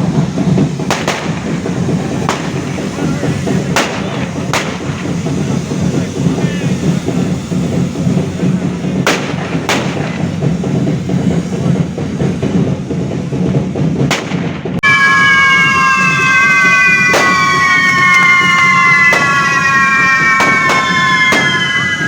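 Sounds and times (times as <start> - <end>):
high whistle gliding down: 0.0 - 12.7, 14.8 - 22.0
fireworks bangs: 0.0 - 22.0
fireworks rumble: 0.0 - 22.0.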